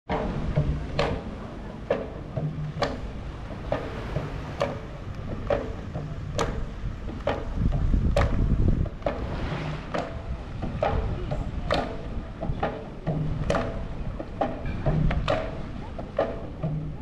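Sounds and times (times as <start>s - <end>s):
drum beaten slowly: 0.1s - 17.0s
wind rumbling on microphone: 0.1s - 17.0s.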